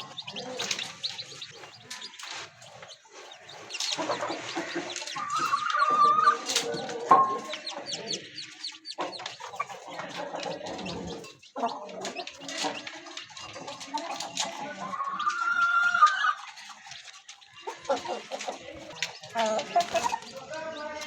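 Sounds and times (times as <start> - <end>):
chick peeps: 0.0 - 21.0
chickens clucking: 0.0 - 21.0.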